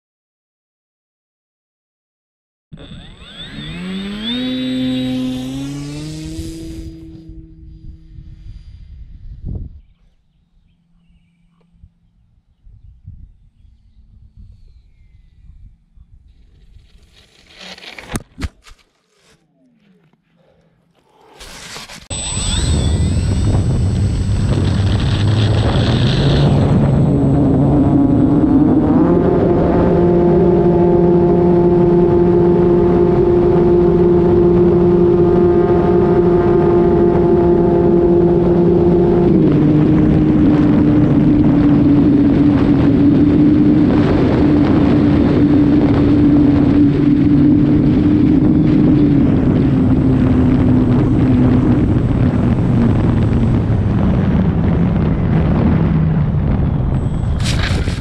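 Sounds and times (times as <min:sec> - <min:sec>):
electric motor and propeller whining: 0:02.7 - 0:58.0.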